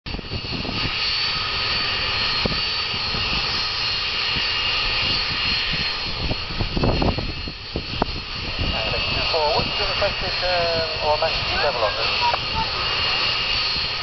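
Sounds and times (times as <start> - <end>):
jet engines idling: 0.1 - 14.0.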